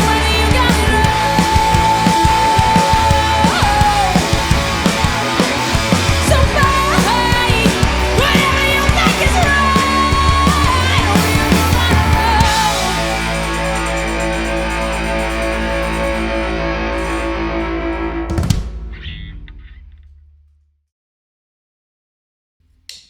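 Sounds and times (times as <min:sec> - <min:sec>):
rock band playing: 0:00.0 - 0:19.3
guitar lead with bending notes: 0:00.0 - 0:19.7.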